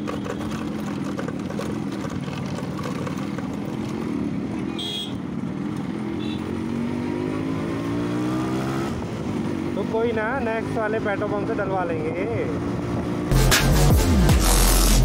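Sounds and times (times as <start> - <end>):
two-stroke motorcycle engine: 0.0 - 13.2.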